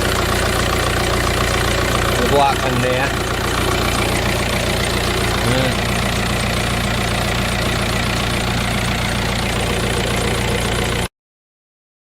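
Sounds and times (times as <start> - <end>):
car engine idling: 0.0 - 11.1.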